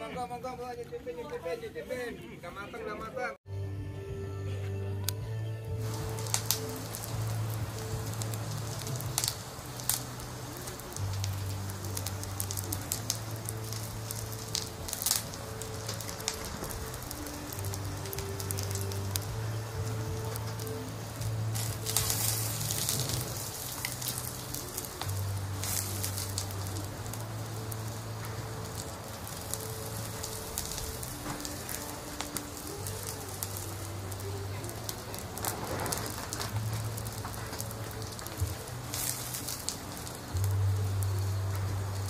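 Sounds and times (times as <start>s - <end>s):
soft background music: 0.0s - 42.0s
wood fire crackling and popping: 5.0s - 42.0s.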